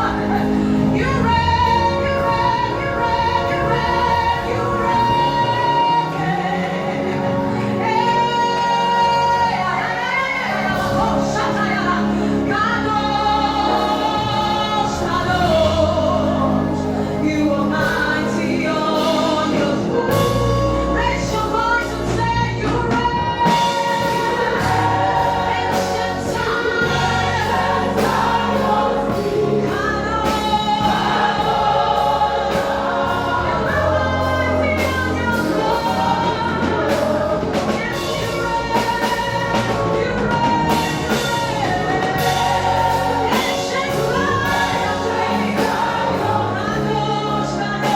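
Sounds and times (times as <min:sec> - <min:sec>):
choir singing: 0:00.0 - 0:47.9
lead singer: 0:00.0 - 0:47.9
live band with bass and drums: 0:00.0 - 0:47.9.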